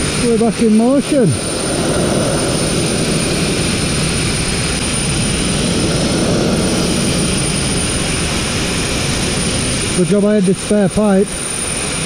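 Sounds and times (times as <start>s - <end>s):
abrasive blasting hiss: 0.0s - 10.0s.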